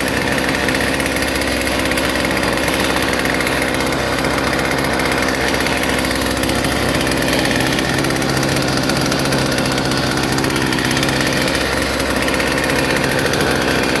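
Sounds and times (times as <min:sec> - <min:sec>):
chainsaw idling: 0:00.0 - 0:14.0.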